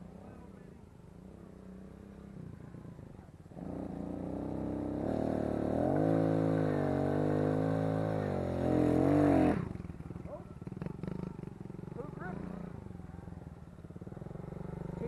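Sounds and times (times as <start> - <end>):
small motorbike engine revving: 1.3 - 15.0.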